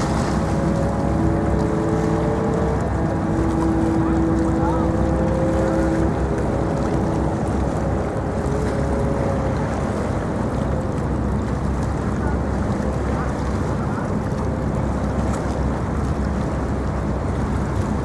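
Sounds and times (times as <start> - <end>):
faint droning tone: 0.0 - 18.0
waterfront ambience: 0.0 - 18.0.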